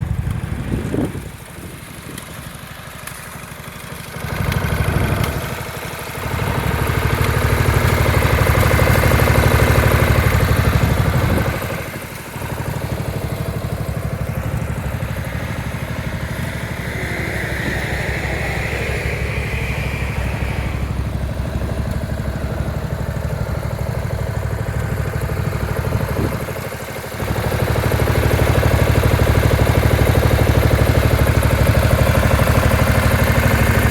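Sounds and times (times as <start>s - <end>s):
lawnmower engine running: 0.0s - 33.9s.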